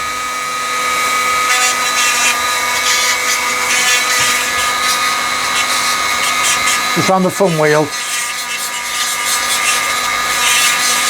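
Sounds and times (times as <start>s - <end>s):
rotary tool whining: 0.8s - 11.0s
bit grinding on metal: 1.1s - 11.0s.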